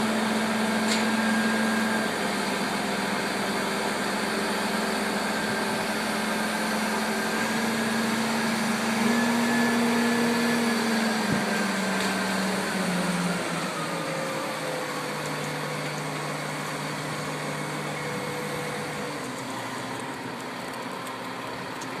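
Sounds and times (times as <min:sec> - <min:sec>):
crane engine running: 0:00.0 - 0:22.0.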